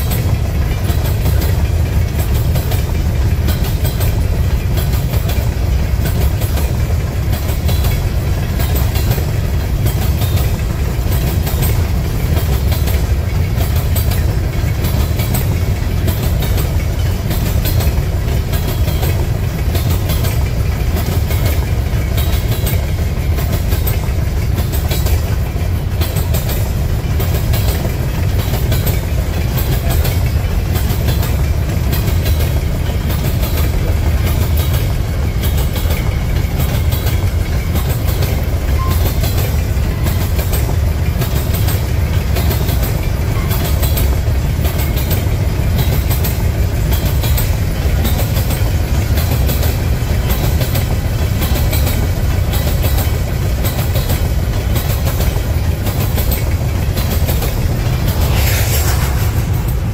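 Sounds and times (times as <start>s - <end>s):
freight train rumbling: 0.0s - 59.9s
wheels clacking over rails: 0.0s - 59.9s.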